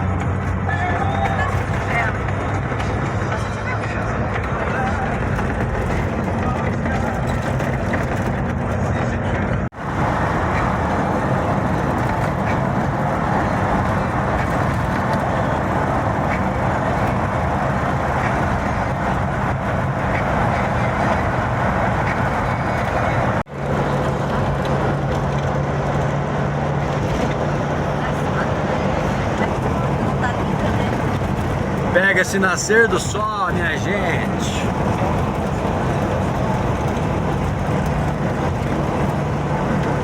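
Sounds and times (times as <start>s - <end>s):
car engine hum: 0.0s - 40.0s
road and wind noise: 0.0s - 40.0s.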